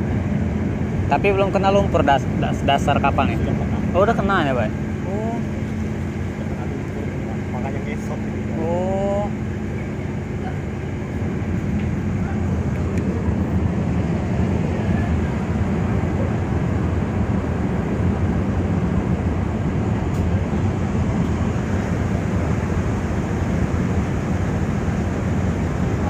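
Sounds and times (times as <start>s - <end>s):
ship diesel engines rumbling: 0.0s - 26.0s.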